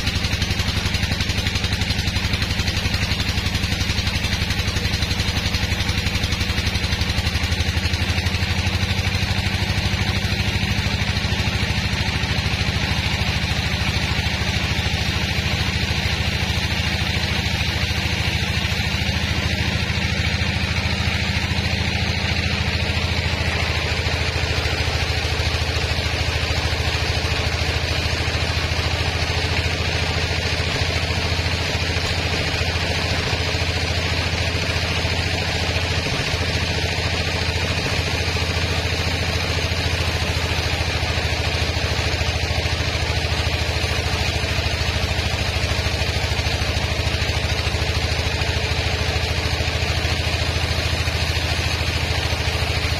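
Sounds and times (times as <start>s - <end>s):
sawmill engine droning: 0.0s - 52.9s.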